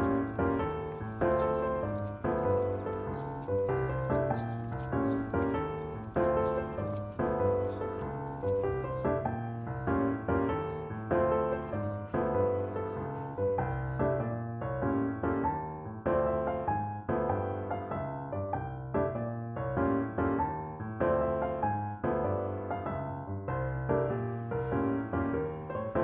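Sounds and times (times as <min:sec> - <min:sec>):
gentle piano piece: 0:00.0 - 0:26.0.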